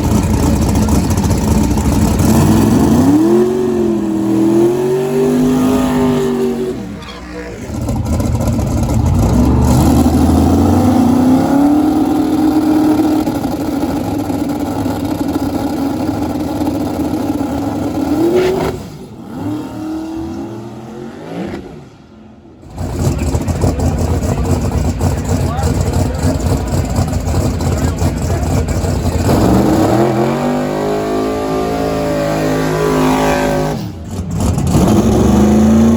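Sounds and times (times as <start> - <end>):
drag racing car engine revving: 0.0 - 35.9.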